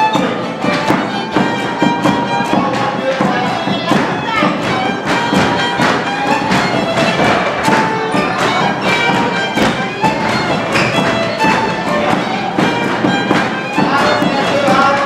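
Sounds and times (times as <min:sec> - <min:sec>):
folk dance music: 0:00.0 - 0:15.0
dancers' feet thudding on floor: 0:00.1 - 0:15.0.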